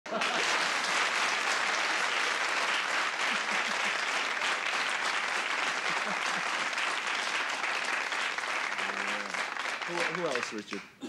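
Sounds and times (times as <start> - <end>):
audience applauding: 0.1 - 10.9.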